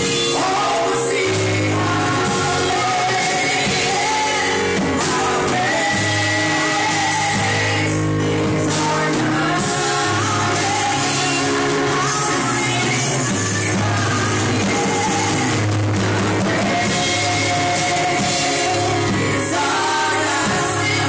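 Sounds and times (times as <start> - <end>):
bass line: 0.0 - 21.0
gospel band playing: 0.0 - 21.0
voices singing: 0.0 - 21.0.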